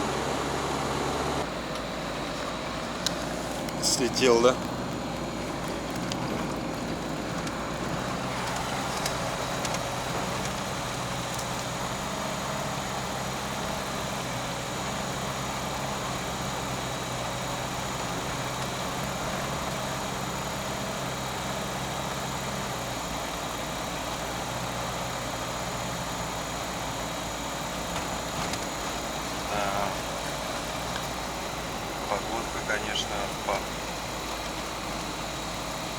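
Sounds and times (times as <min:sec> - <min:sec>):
tyre and road noise: 0:00.0 - 0:21.2, 0:26.4 - 0:35.9
car engine hum: 0:00.0 - 0:35.9.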